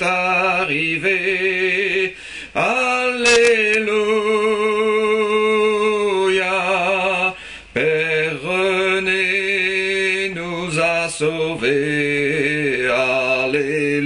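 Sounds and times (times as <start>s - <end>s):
man singing a slow chant: 0.0s - 14.0s.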